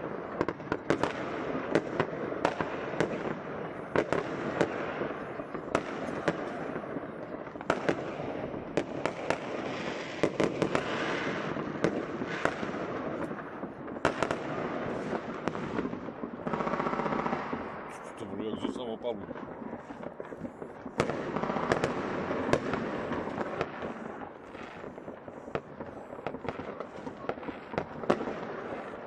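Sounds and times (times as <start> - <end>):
distant fireworks explosions: 0.0 - 29.0
firecracker bangs: 0.0 - 29.0.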